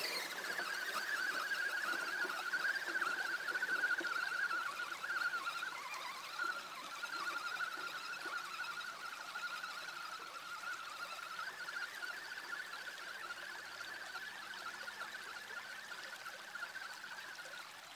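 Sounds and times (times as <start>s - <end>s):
rc car electric motor whining: 0.0s - 17.9s
running water rushing: 0.0s - 17.9s.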